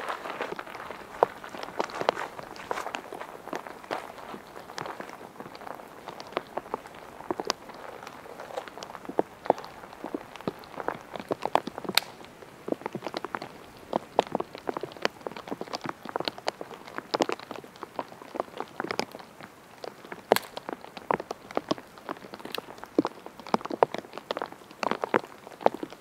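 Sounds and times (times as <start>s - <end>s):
raindrops ticking on a surface: 0.0s - 26.0s.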